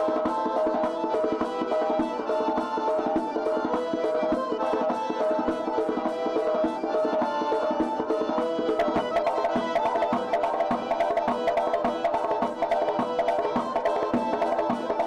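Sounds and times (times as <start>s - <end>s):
held melody line: 0.0s - 15.0s.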